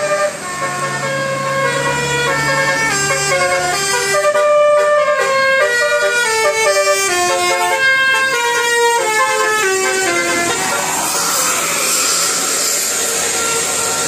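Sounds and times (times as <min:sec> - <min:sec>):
horn-like melody: 0:00.0 - 0:11.8.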